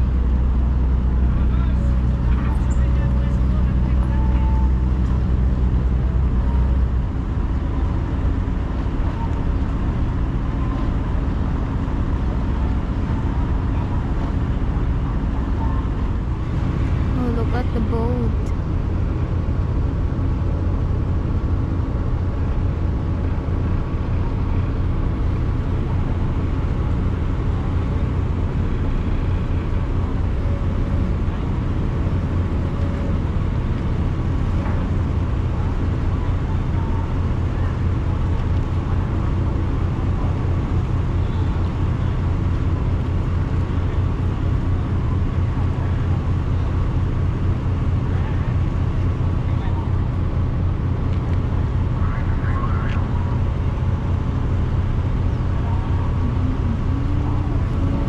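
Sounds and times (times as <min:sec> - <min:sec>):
low engine drone: 0:00.0 - 0:58.0.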